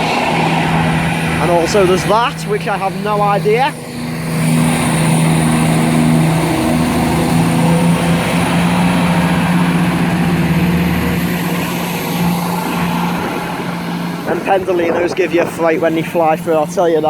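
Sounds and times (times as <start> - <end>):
passenger train running: 0.0 - 17.0.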